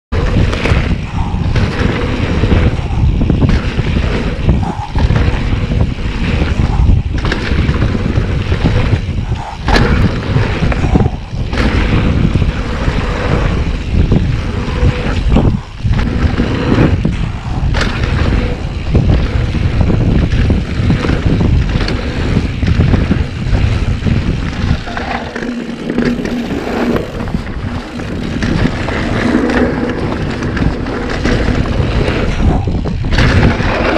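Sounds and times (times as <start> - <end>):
bike knocks and rattles: 0.1 - 33.9
tyres on dirt trail: 0.1 - 33.9
wind buffeting microphone: 0.1 - 33.9.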